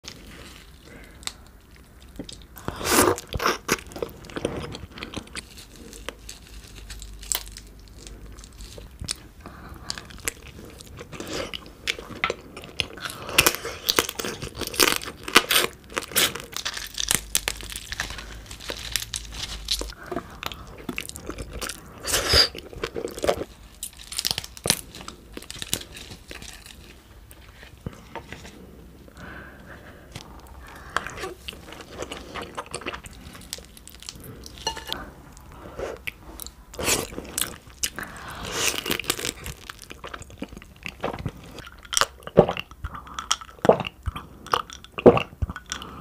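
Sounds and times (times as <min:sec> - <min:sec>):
crunching and chewing crab: 0:00.0 - 0:46.0.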